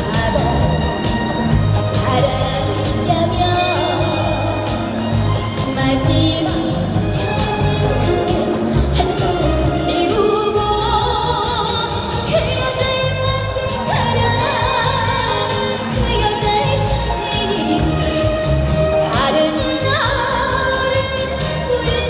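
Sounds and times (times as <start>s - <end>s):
backing track with steady beat: 0.0s - 22.0s
woman singing with vibrato: 0.0s - 22.0s.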